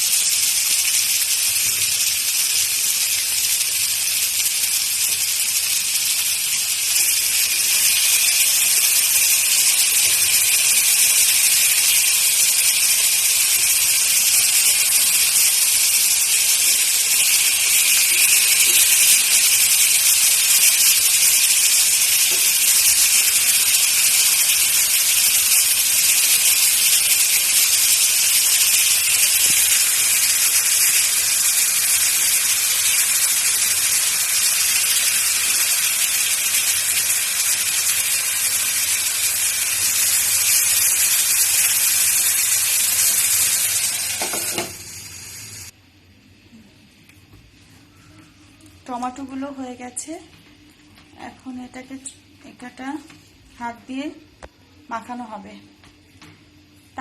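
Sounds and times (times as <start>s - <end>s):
tomatoes sizzling in hot oil: 0.0s - 45.8s.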